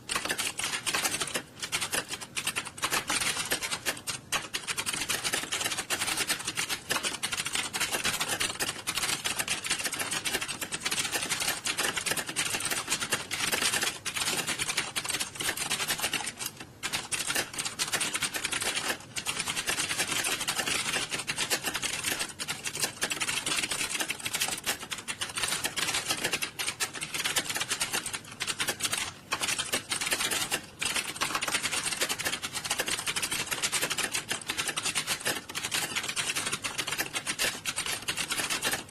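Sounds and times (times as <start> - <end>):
many keyboards typing fast: 0.0 - 38.9.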